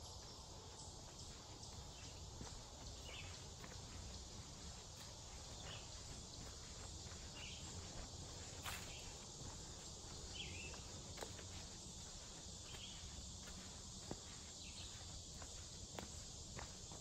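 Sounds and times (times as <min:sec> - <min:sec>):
footsteps on dirt trail: 0:00.0 - 0:17.0
insects chorus: 0:00.0 - 0:17.0.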